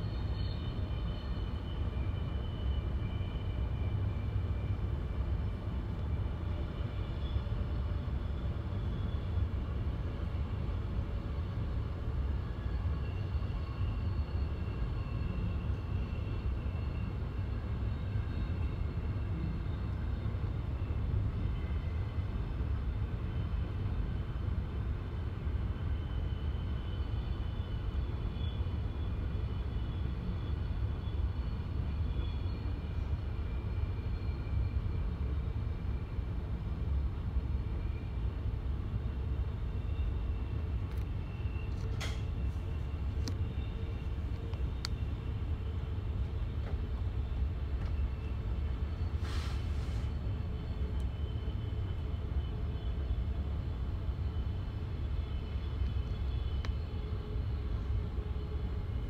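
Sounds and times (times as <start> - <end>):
faint thin whining tones: 0.0 - 59.0
train carriage rumble: 0.0 - 59.0.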